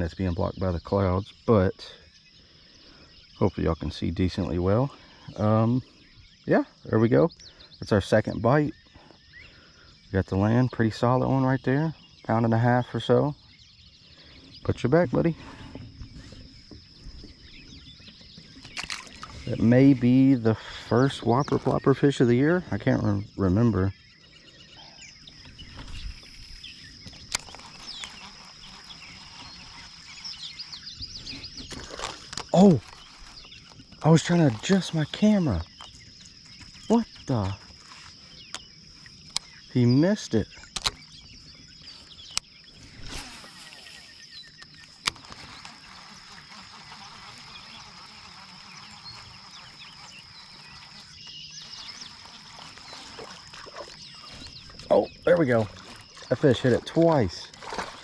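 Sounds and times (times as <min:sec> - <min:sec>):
birds chirping: 0:00.0 - 0:58.0
frogs chirping: 0:00.0 - 0:58.0
high-pitched insect drone: 0:00.0 - 0:58.0.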